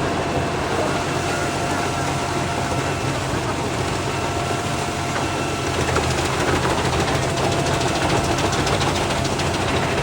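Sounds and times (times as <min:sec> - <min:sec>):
wood chipper engine running: 0:00.0 - 0:10.0.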